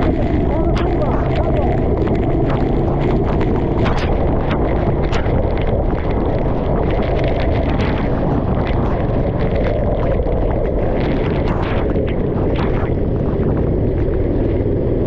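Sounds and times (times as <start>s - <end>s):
low rumble: 0.0s - 15.0s
sharp crackles: 0.0s - 15.0s
wind buffeting microphone: 0.0s - 15.0s.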